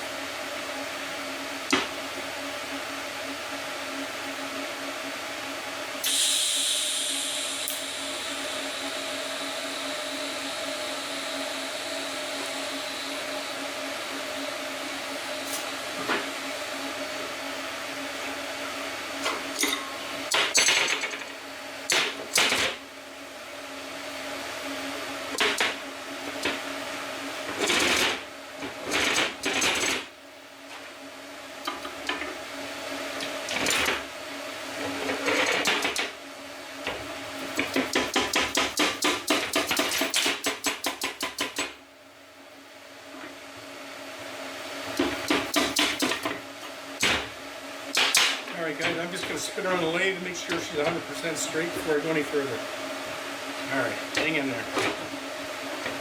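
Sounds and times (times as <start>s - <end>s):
machine hum with high whine: 0.0s - 56.0s.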